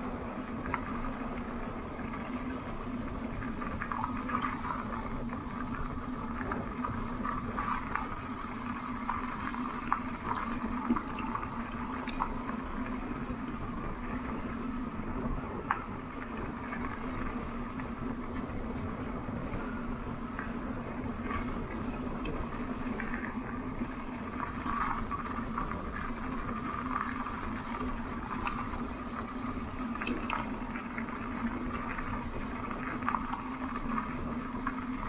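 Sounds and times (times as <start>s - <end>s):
electric bike motor hum: 0.0s - 35.0s.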